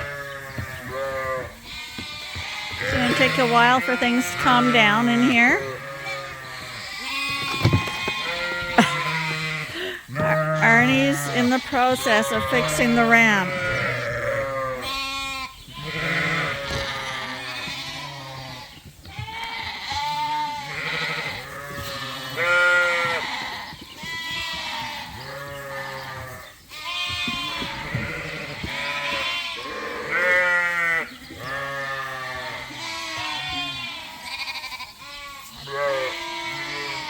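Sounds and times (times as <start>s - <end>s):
sheep and lambs bleating: 0.0s - 37.0s.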